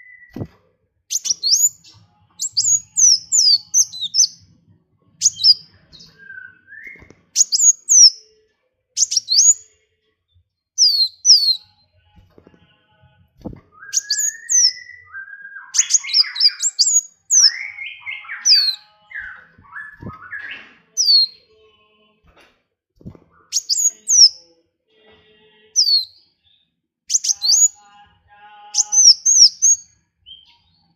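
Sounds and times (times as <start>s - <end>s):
songbirds chirping: 1.1s - 8.4s, 9.0s - 22.4s, 23.0s - 30.9s.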